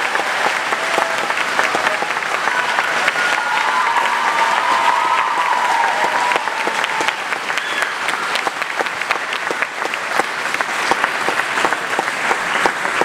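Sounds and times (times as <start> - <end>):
audience cheering: 0.0 - 11.6
audience clapping: 0.0 - 13.0.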